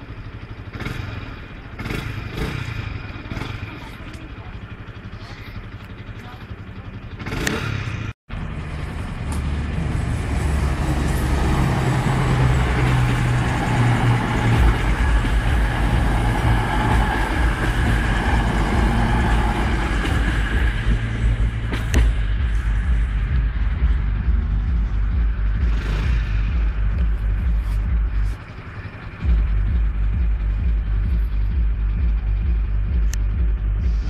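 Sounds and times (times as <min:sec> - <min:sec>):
diesel engines droning: 0:00.0 - 0:34.0
train wheels rumbling on rails: 0:00.0 - 0:34.0.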